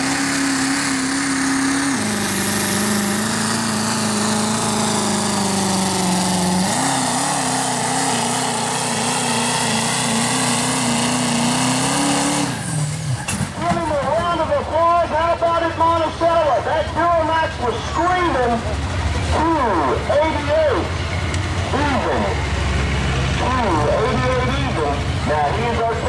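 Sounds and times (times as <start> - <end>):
diesel truck engine at full throttle: 0.0 - 26.0.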